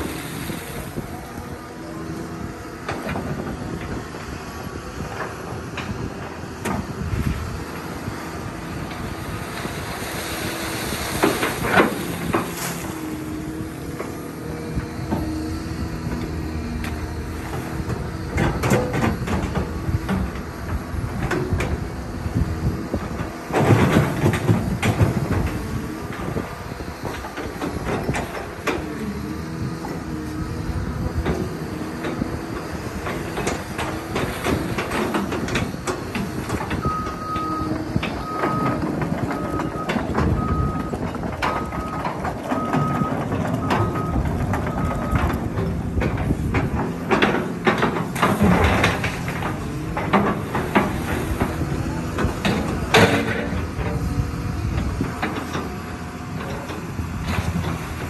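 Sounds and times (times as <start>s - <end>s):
motor vehicle humming: 0.0s - 58.0s.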